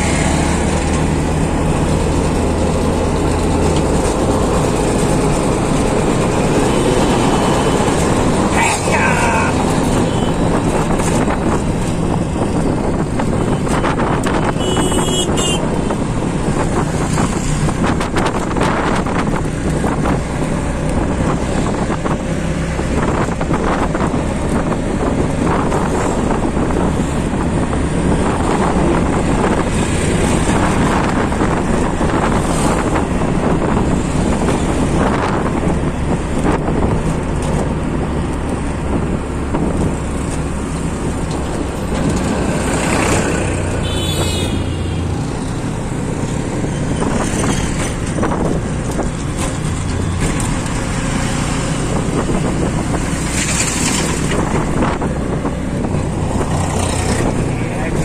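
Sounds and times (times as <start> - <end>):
auto-rickshaw engine running: 0.0 - 58.0
road noise: 0.0 - 58.0
wind buffeting microphone: 9.5 - 14.6, 15.3 - 43.8, 44.5 - 58.0.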